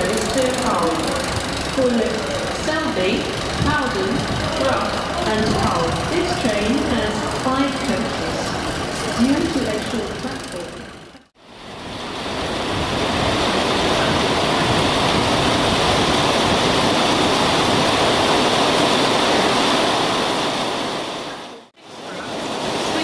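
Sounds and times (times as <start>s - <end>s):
train passing at speed: 0.0s - 23.0s.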